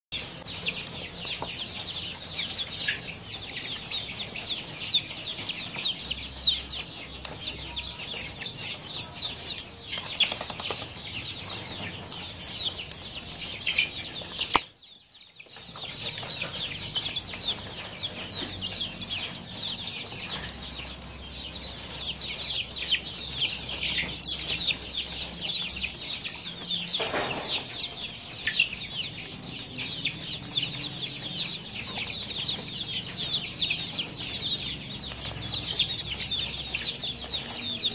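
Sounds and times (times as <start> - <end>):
chickens peeping: 0.2 - 37.9.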